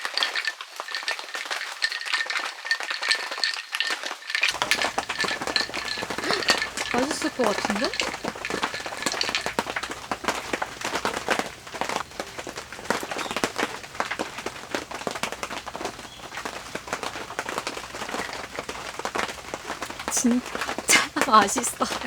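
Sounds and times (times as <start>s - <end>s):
rain pattering on an awning: 0.0s - 22.0s.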